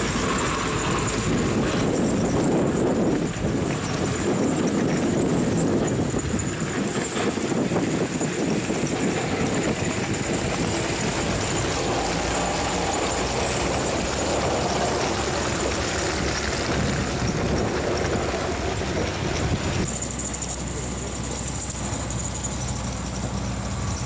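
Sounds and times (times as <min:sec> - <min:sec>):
tyres and blade scraping snow: 0:00.0 - 0:19.9
diesel engine running: 0:00.0 - 0:24.0.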